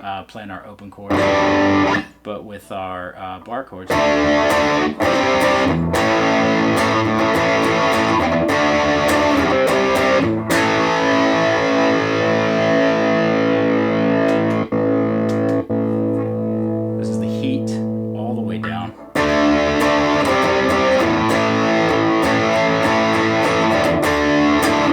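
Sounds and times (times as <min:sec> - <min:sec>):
distorted electric guitar chords: 0:01.1 - 0:02.2, 0:03.9 - 0:24.9.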